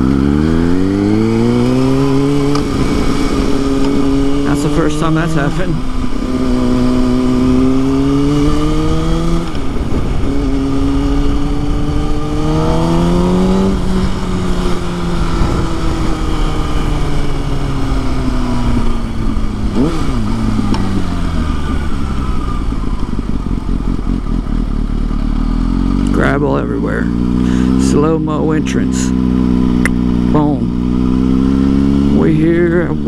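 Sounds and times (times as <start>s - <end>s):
low wind rumble: 0.0s - 33.0s
motorcycle engine revving: 0.0s - 33.0s.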